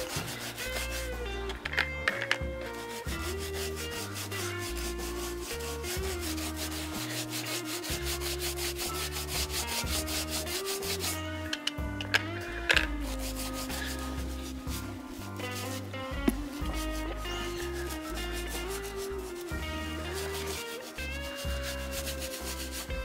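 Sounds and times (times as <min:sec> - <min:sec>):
brush scrubbing leather boot: 0:00.0 - 0:11.2, 0:12.7 - 0:23.0
background music with bassline: 0:00.0 - 0:23.0.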